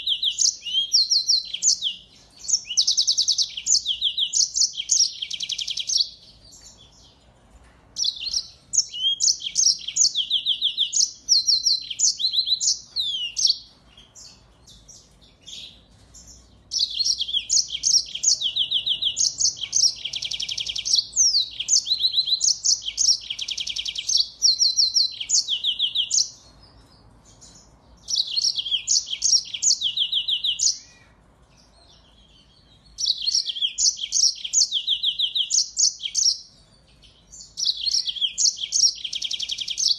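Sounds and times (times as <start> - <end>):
finch singing trills: 0.0 - 7.2, 8.0 - 39.9.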